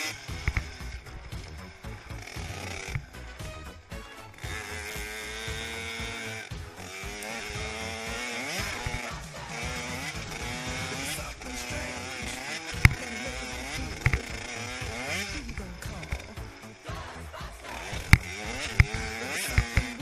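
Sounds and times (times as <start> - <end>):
motorbike engine revving: 0.0 - 20.0.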